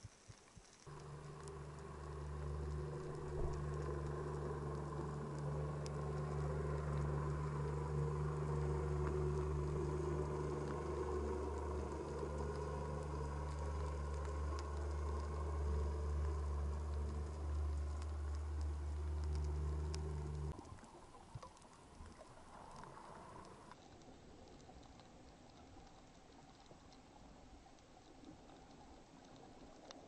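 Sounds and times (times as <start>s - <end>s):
faint crackling clicks of the sea: 0.0s - 30.0s
boat engine droning underwater: 0.8s - 30.0s.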